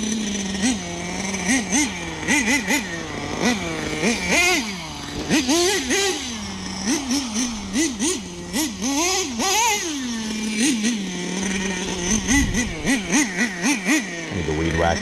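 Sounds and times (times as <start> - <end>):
small nitro engine revving: 0.0 - 15.0.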